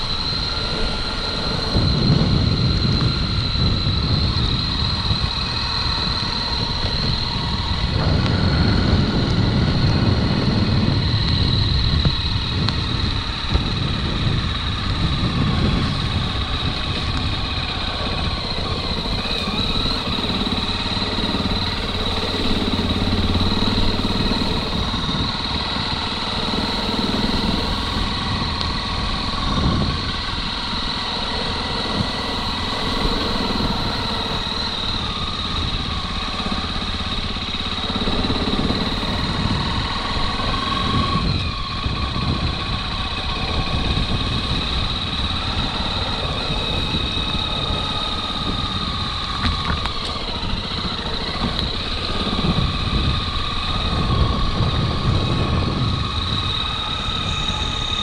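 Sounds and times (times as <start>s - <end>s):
high-pitched steady tone: 0.0s - 58.0s
motorcycle engine rumbling: 0.0s - 58.0s.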